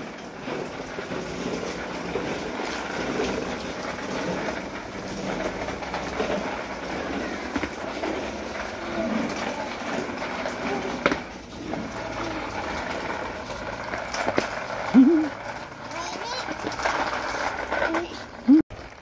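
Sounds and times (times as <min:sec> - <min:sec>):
toy truck wheels rattling on paving: 0:00.0 - 0:19.0.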